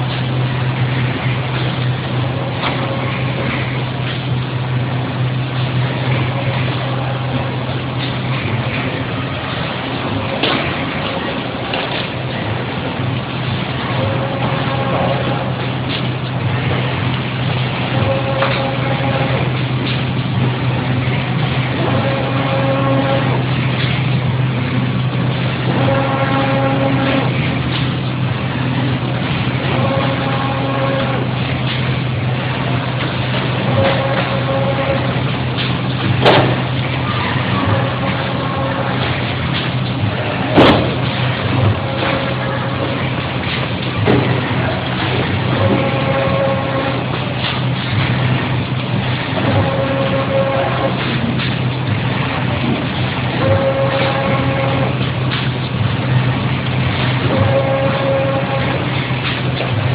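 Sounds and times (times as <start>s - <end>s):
machine motor humming: 0.0s - 59.9s.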